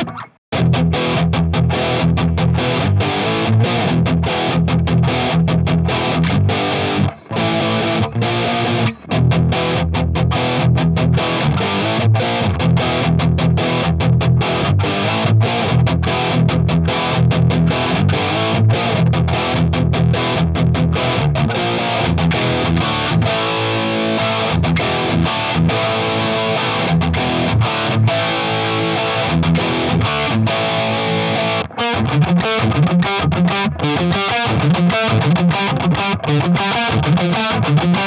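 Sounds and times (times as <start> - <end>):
distorted electric guitar riff: 0.0 - 38.0.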